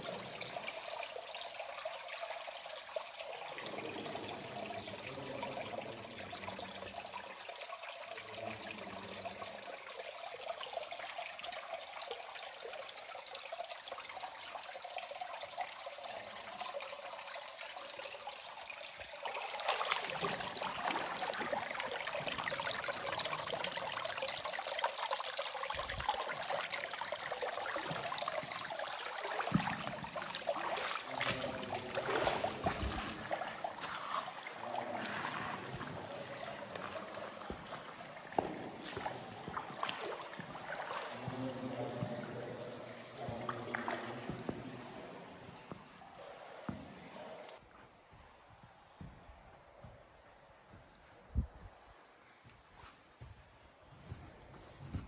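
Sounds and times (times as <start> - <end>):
stream water trickling: 0.0 - 47.6.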